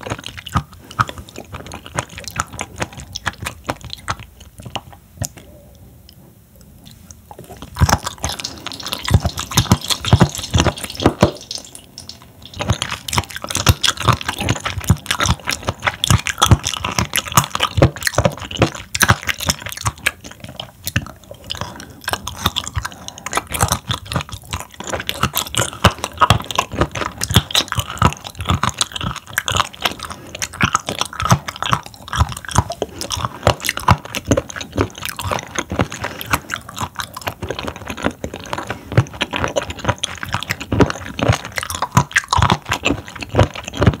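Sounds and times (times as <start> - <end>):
wet chewing mouth clicks: 0.0 - 44.0.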